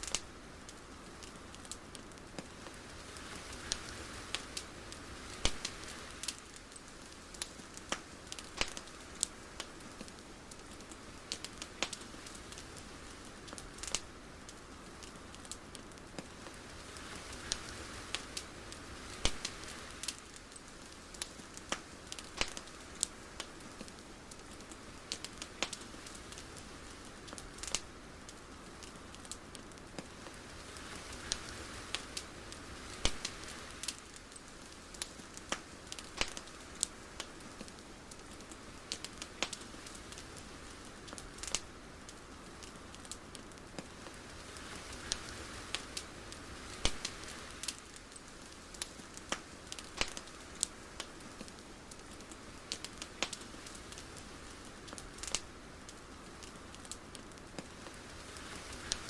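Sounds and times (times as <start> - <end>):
crackling clicks and pops: 0.0 - 59.0
soft hiss: 0.0 - 59.0.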